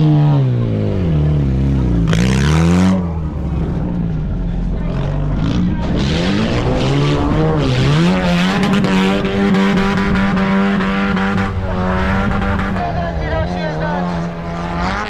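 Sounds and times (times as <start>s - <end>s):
racing vehicle engine revving: 0.0s - 15.0s.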